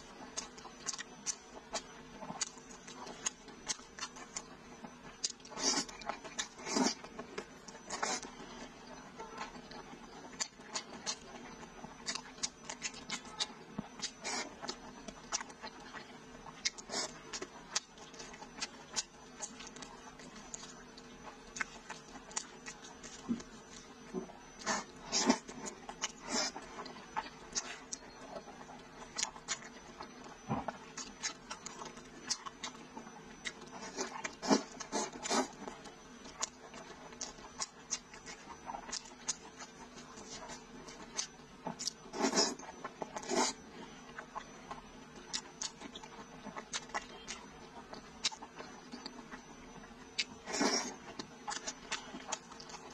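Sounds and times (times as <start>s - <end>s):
person chewing with wet smacks: 0.0s - 52.9s.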